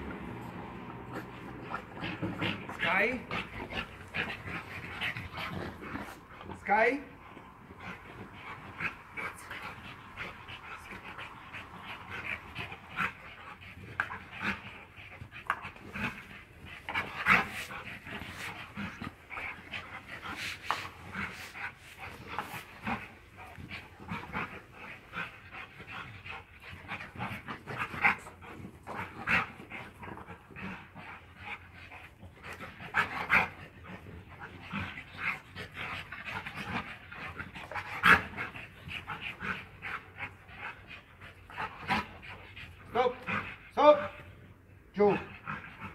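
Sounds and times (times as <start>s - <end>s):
dogs panting: 0.0s - 45.9s.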